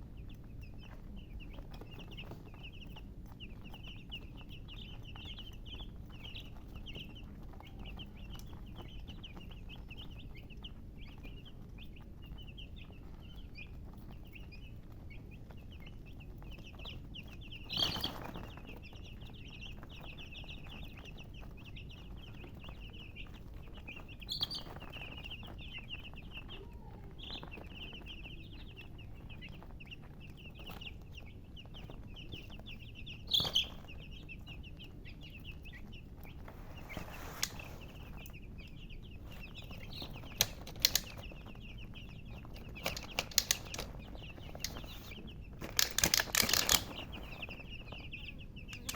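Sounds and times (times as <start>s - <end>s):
chicks peeping: 0.0s - 48.9s.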